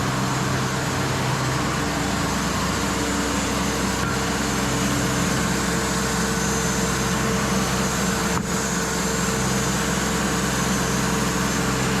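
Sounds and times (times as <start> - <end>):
bandsaw sawmill running: 0.0 - 12.0.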